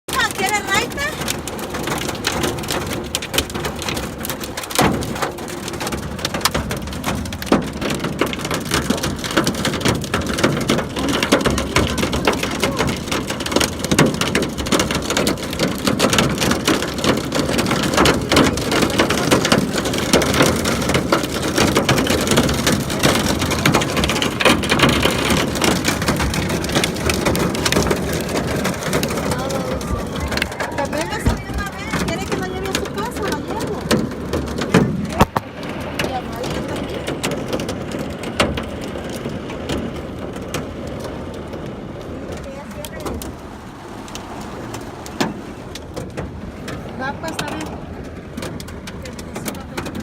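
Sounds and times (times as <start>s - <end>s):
heavy rain on a surface: 0.0s - 50.0s.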